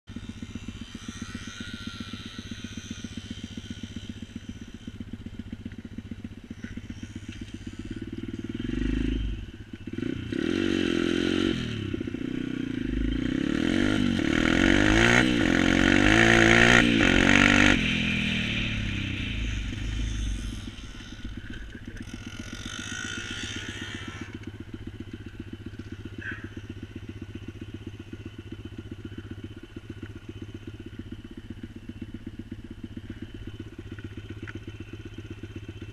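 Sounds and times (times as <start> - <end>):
small motorbike engine revving: 0.1 - 35.9.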